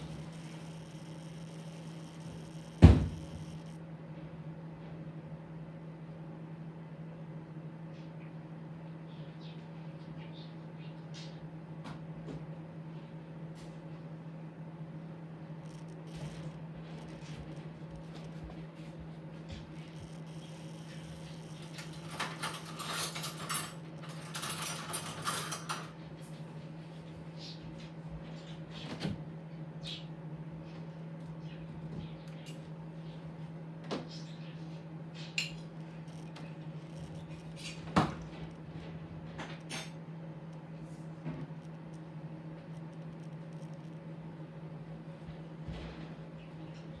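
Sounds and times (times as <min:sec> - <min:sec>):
microwave oven humming: 0:00.0 - 0:47.0.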